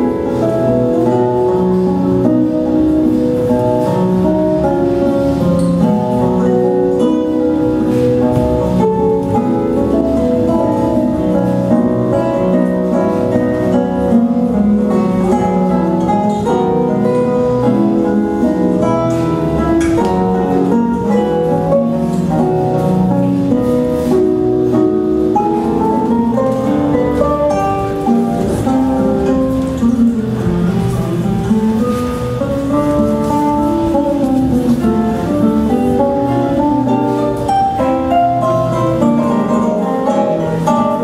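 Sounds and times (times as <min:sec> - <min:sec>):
instrumental music with quick notes: 0:00.0 - 0:41.0.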